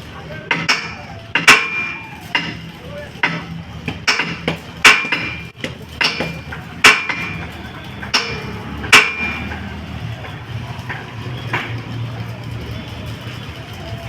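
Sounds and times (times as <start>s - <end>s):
hammer striking steel: 0.3s - 12.0s.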